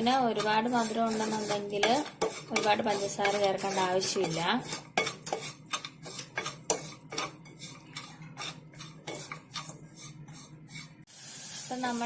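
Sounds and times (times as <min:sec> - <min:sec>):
spoon scraping a pan: 0:00.0 - 0:11.1.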